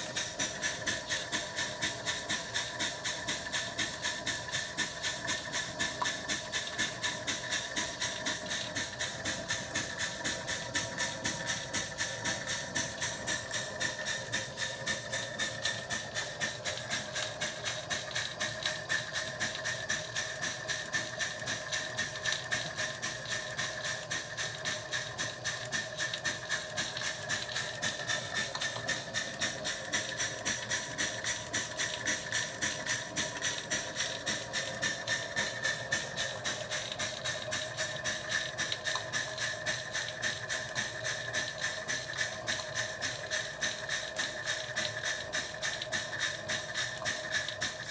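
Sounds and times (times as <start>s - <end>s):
steam engine exhaust barks: 0.0s - 47.9s
steam hissing: 0.0s - 47.9s.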